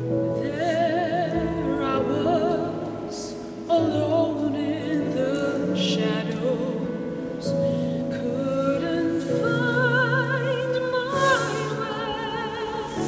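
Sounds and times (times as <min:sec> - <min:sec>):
woman singing with vibrato: 0:00.0 - 0:13.0.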